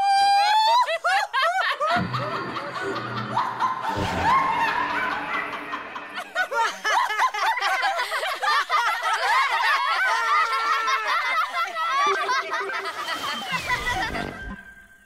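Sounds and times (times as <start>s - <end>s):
cartoon voices laughing: 0.6s - 14.5s.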